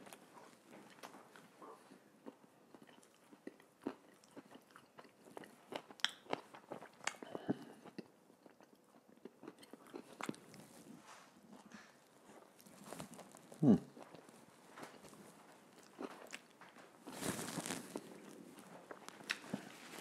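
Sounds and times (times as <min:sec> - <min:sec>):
chewing crunchy sandwich: 0:00.0 - 0:20.0.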